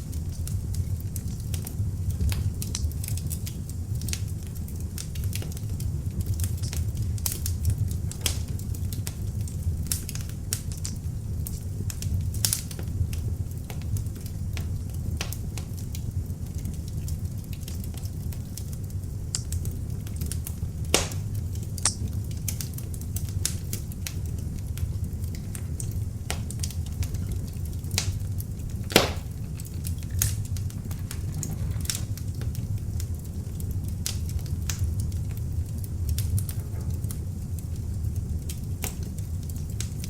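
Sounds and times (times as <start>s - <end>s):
fire crackling: 0.0s - 40.0s
fire popping: 0.0s - 40.0s
log fire burning: 0.0s - 40.0s.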